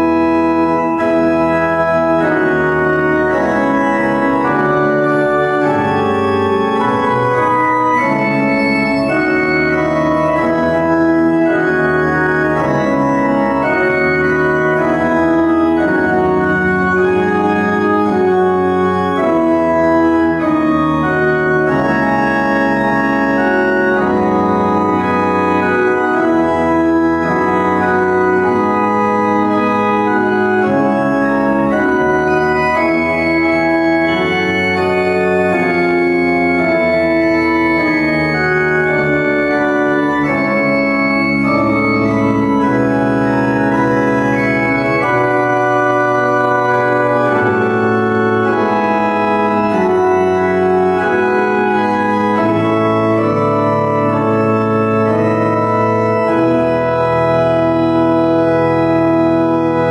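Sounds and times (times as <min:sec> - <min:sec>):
pipe organ chorale: 0:00.0 - 0:59.9.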